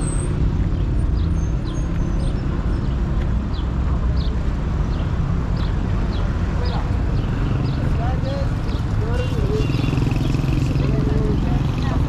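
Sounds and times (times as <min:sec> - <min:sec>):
rumble of car traffic: 0:00.0 - 0:12.0
small birds chirping: 0:00.7 - 0:12.0.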